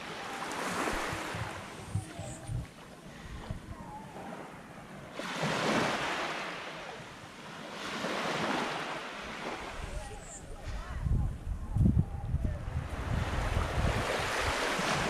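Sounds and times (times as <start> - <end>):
waves washing up beach: 0.0 - 11.0, 12.6 - 15.0.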